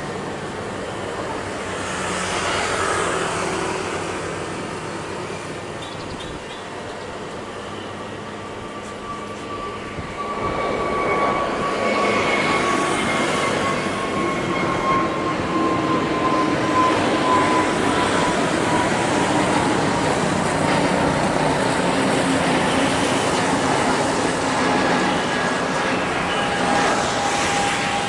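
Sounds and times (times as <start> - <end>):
jet engines roaring with high whine: 0.0 - 28.0.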